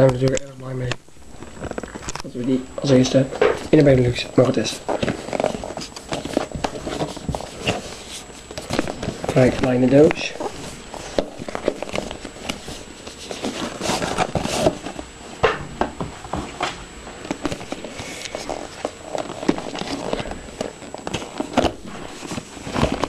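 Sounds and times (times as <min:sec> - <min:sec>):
cardboard box rustling and scraping: 0:01.4 - 0:15.2, 0:17.2 - 0:23.0.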